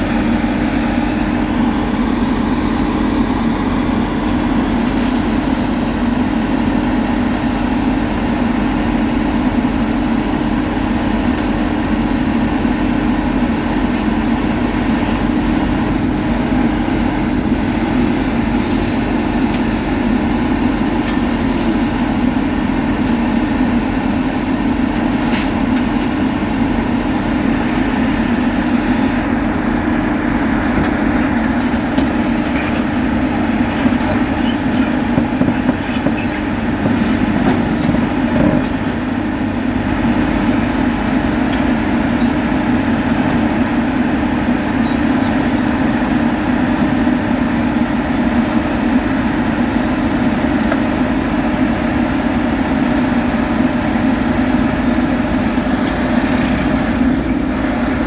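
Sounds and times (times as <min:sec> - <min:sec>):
construction machinery engine running: 0:00.0 - 0:58.0.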